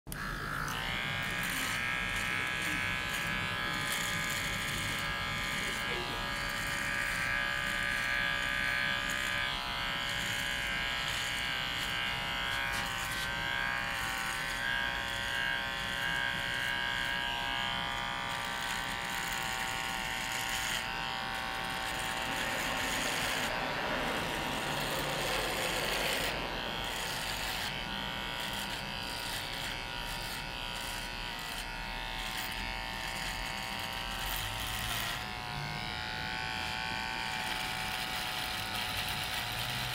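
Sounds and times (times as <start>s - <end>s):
hair trimmer buzzing: 0.1s - 39.9s.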